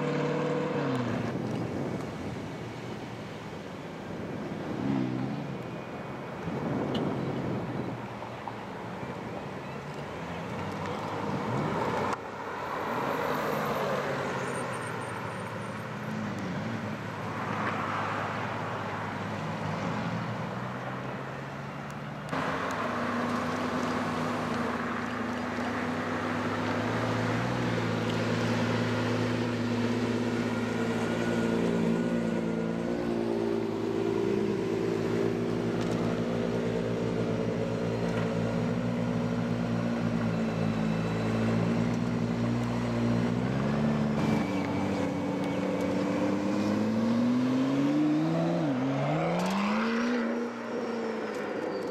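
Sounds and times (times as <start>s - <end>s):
sports car engines: 0.0s - 51.9s.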